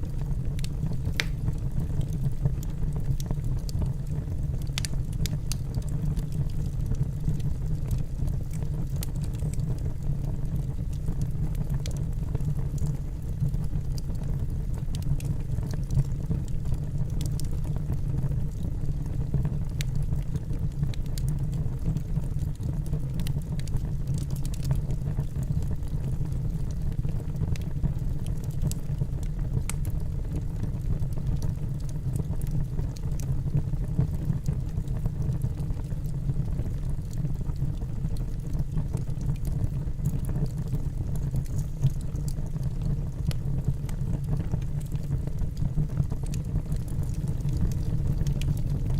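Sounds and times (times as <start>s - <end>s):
fire flames rumbling: 0.0s - 48.9s
logs crackling and popping: 0.1s - 48.9s.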